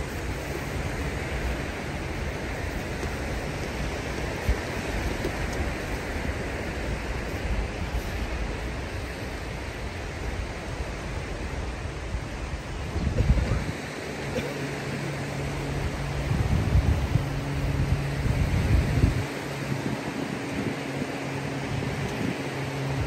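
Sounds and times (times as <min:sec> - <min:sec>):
sea surf on sandy beach: 0:00.0 - 0:23.0
wind rumble on microphone: 0:00.0 - 0:23.0.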